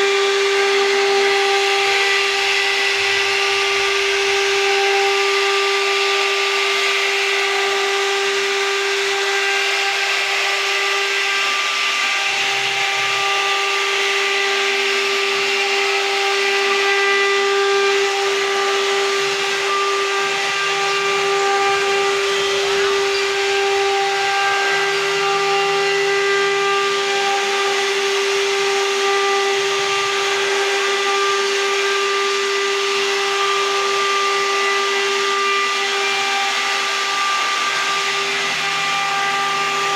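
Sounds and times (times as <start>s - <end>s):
hiss of wood cutting: 0.0s - 39.9s
router spindle whining: 0.0s - 39.9s.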